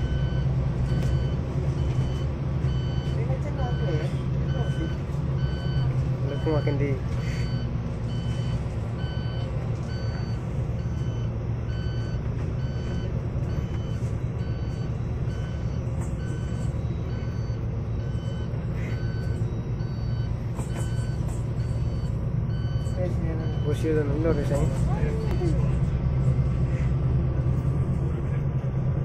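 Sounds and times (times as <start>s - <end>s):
electronic warning beeps: 0.0s - 25.9s
vehicle engine drone: 0.0s - 29.0s.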